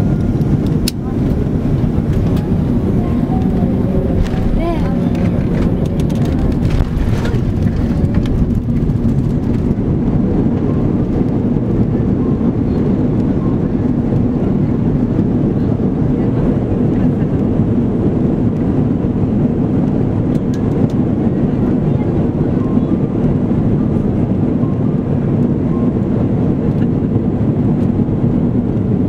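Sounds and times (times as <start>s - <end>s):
low rumble of engines and wheels: 0.0s - 29.0s.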